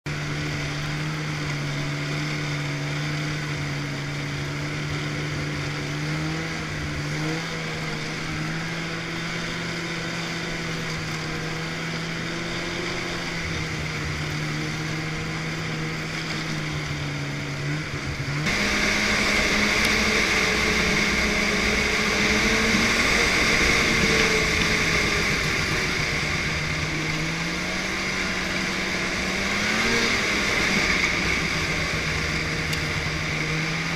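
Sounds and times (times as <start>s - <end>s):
snowmobile engine running: 0.0s - 33.9s.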